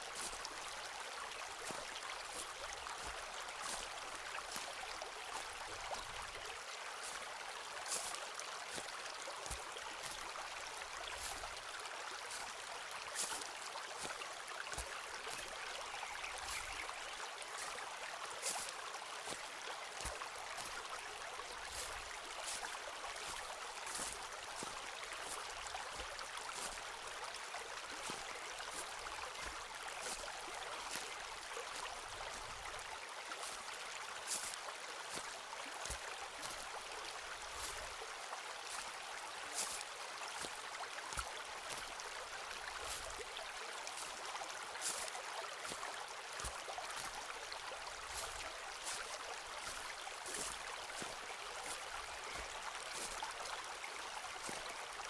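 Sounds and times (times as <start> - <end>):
footsteps crunching on forest path: 0.0 - 55.0
stream flowing: 0.0 - 55.0.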